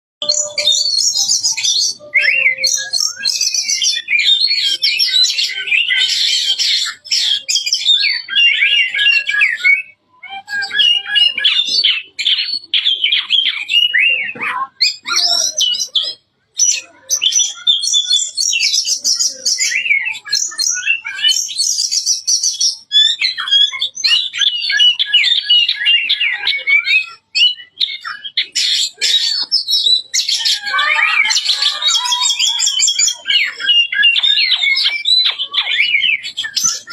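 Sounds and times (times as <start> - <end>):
bird singing: 0.2 - 36.9.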